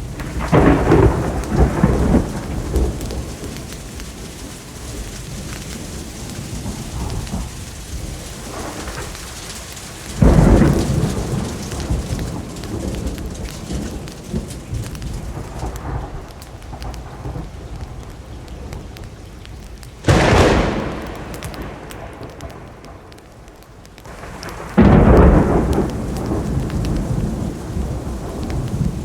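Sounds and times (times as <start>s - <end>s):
loud thunderclaps: 0.0s - 29.0s
steady rain: 0.0s - 29.0s.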